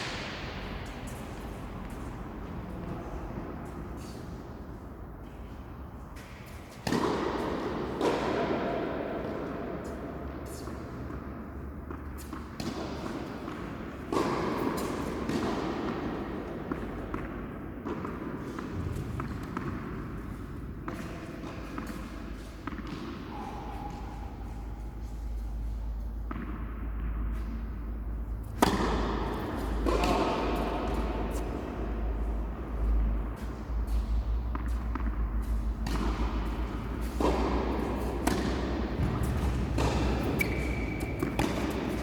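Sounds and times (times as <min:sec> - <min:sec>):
tennis balls thudding in a hall: 0:00.0 - 0:42.0.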